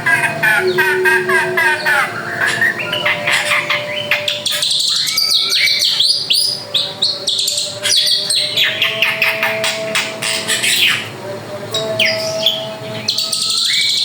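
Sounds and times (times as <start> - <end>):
bird singing whistles and chirps: 0.1 - 11.1, 11.9 - 14.0.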